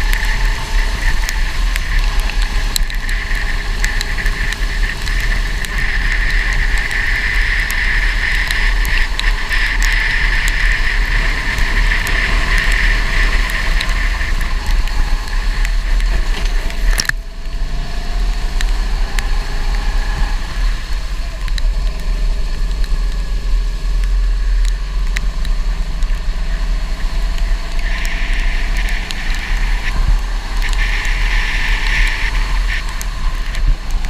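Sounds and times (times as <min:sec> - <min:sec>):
go-kart engine running: 0:00.0 - 0:34.0.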